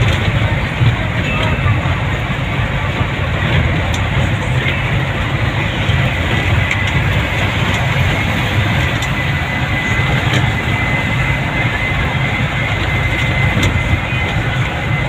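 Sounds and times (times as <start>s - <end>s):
vehicle rumbling along road: 0.0s - 15.0s.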